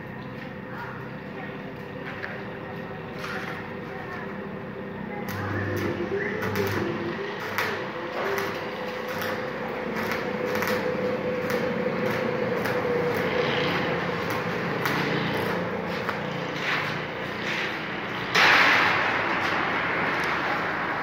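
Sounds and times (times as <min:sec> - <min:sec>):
arc welding crackling and hissing: 0:00.4 - 0:21.0.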